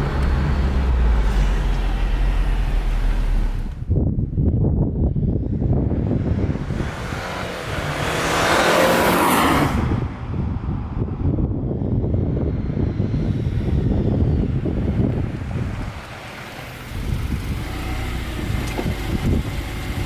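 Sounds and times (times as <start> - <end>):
road and wind noise: 0.0 - 20.0
vehicle engine droning: 0.0 - 20.0.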